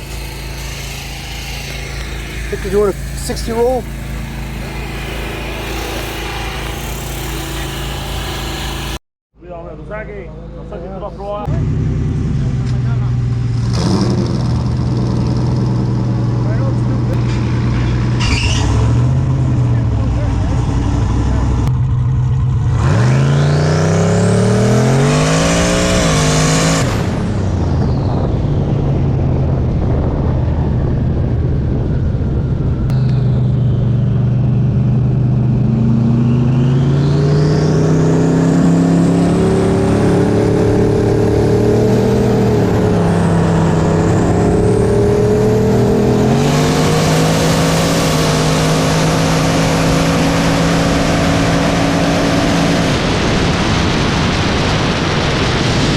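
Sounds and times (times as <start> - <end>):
car engines at full throttle: 0.0 - 55.9.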